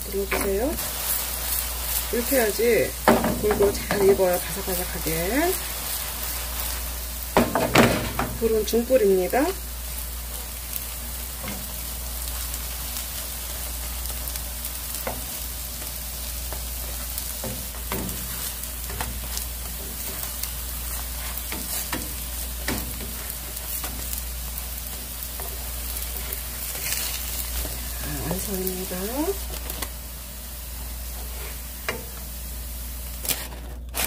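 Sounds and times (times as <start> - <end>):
pancakes sizzling in oil: 0.0 - 34.0.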